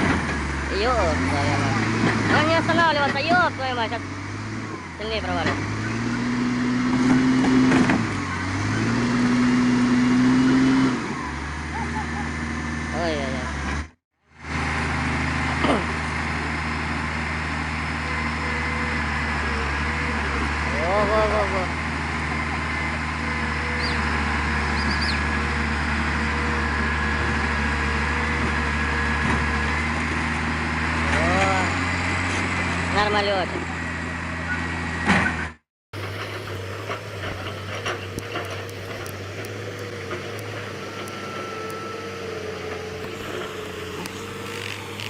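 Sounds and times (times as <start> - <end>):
vehicle engine running: 0.0 - 45.0.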